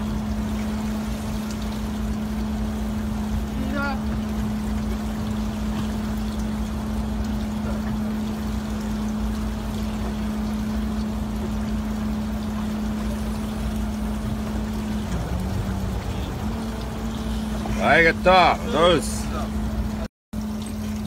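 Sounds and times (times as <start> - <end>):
boat engine humming: 0.0 - 21.0
water rushing: 0.0 - 21.0.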